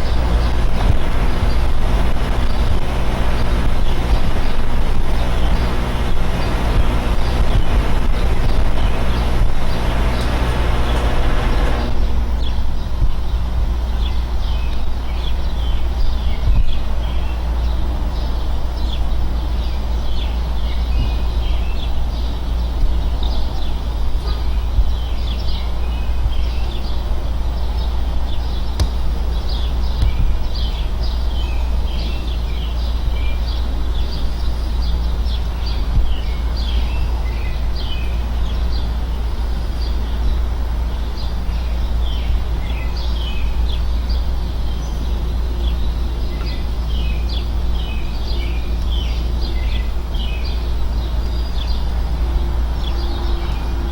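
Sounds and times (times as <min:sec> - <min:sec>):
air conditioner units humming: 0:00.0 - 0:53.9
birds chirping: 0:00.0 - 0:53.9.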